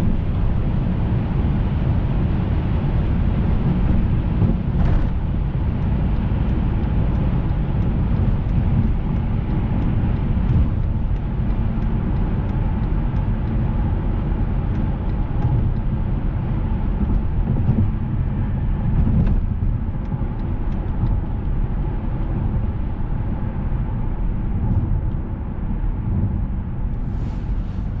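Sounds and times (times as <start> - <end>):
car engine rumble: 0.0 - 28.0
road and wind hiss: 0.0 - 28.0
tyres on the road: 0.0 - 28.0.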